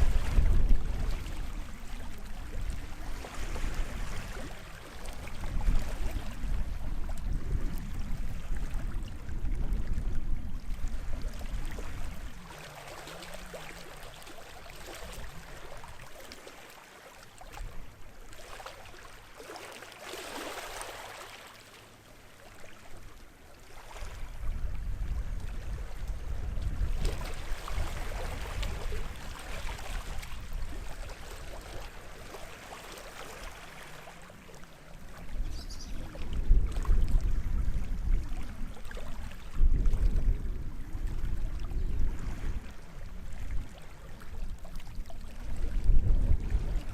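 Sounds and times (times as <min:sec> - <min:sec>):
sea waves washing ashore: 0:00.0 - 0:46.9.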